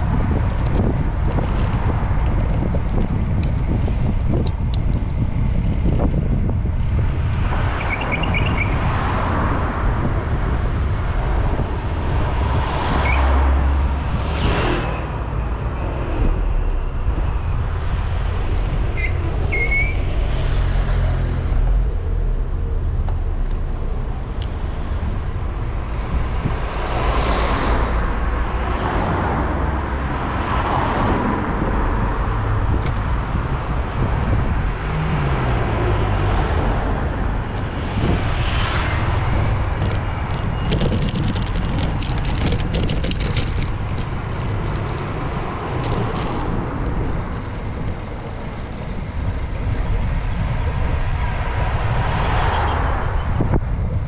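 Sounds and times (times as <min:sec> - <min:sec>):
vehicles passing: 0:00.0 - 0:54.0
wind and road noise rumble: 0:00.0 - 0:54.0.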